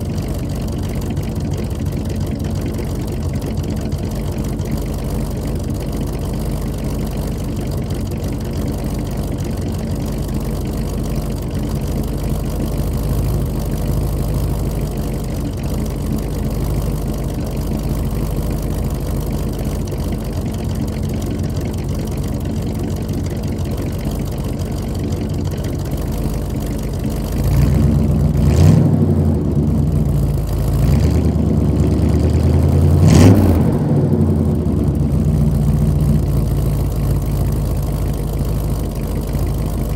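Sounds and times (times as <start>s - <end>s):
pickup engine idling and revving: 0.0s - 39.9s.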